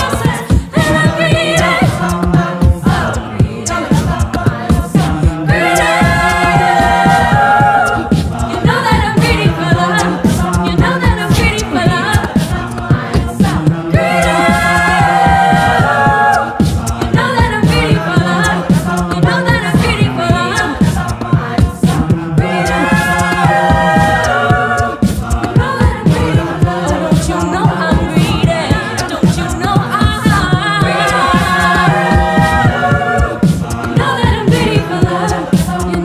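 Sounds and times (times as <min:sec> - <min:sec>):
backing vocal harmonies: 0:00.0 - 0:36.0
lead voice singing: 0:00.0 - 0:36.0.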